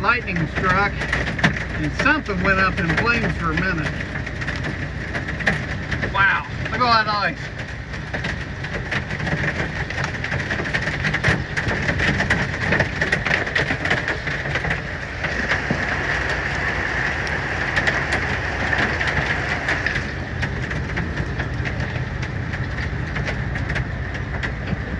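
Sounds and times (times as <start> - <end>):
hail clattering on truck roof: 0.0 - 24.9
low steady rumble: 0.0 - 24.9.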